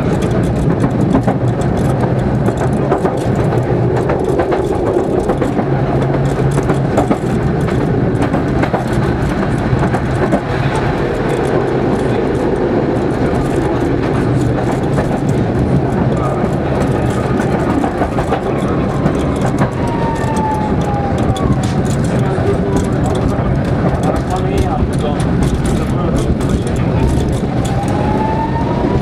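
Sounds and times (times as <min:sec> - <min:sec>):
clicks and rattles: 0:00.0 - 0:29.0
tram wheels rumbling on rails: 0:00.0 - 0:29.0.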